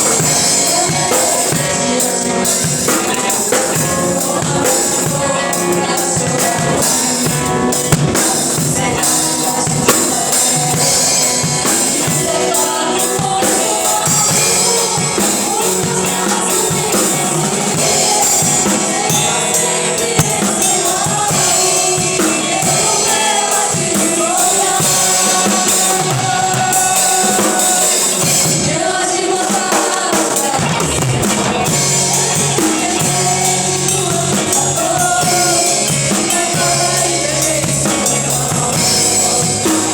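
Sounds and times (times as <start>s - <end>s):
people singing: 0.0s - 39.9s
worship band with drums: 0.0s - 39.9s.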